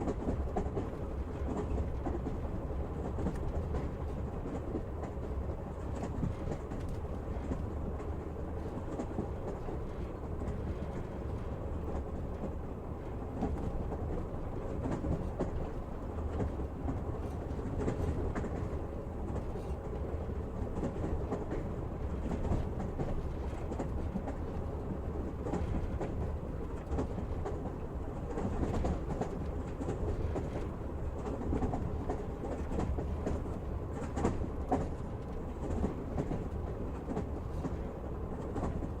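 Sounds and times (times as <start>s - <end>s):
train carriage rumble: 0.0s - 39.0s.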